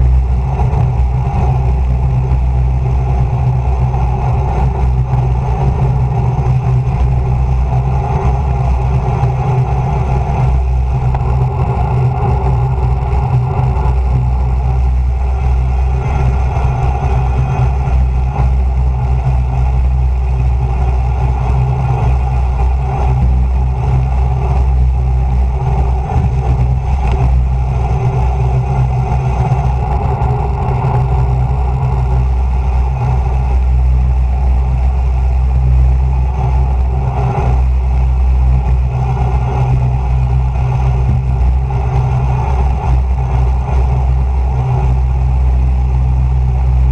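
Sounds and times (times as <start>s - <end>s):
wind rush on microphone: 0.0s - 46.9s.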